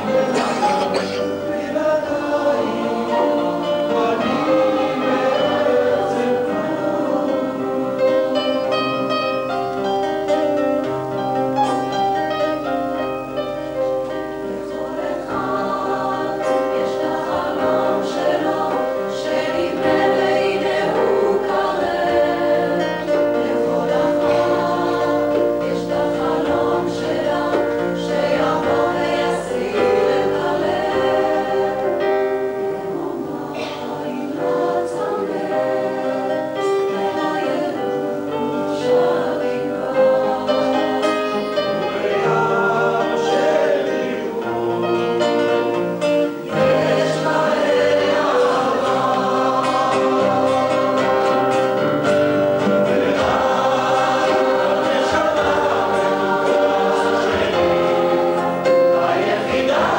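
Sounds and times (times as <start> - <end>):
guitar accompaniment: 0.0 - 59.9
mixed choir singing in harmony: 0.0 - 59.9.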